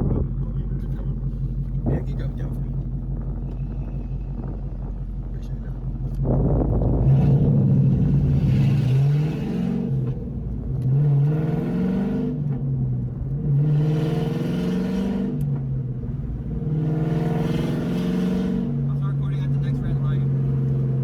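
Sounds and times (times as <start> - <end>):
car exhaust accelerating: 0.0 - 21.0.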